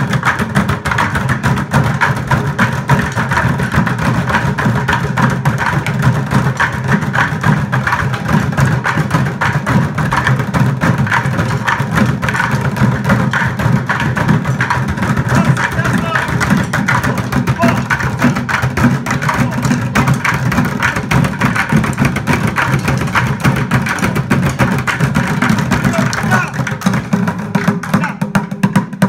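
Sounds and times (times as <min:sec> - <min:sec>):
group drumming on plastic buckets: 0:00.0 - 0:29.0.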